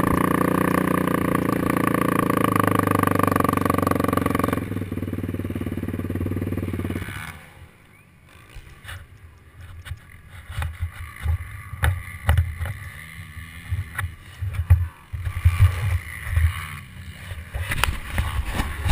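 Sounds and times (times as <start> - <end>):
quad engine running: 0.0 - 18.9.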